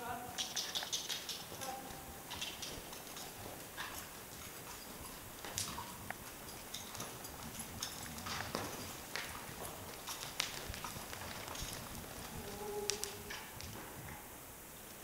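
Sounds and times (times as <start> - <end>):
horse hoofbeats on dirt: 0.4 - 14.3.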